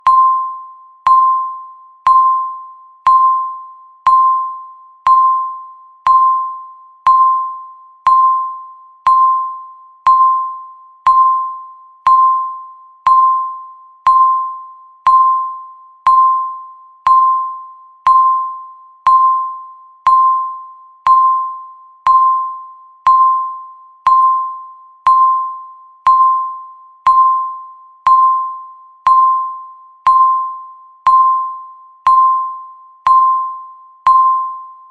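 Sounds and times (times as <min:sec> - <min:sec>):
countdown timer beeping: 0:00.0 - 0:34.9.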